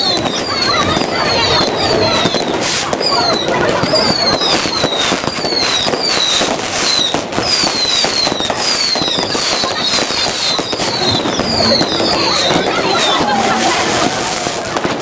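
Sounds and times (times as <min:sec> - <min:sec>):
fireworks popping and crackling: 0:00.0 - 0:15.0
fireworks whistling: 0:00.0 - 0:15.0.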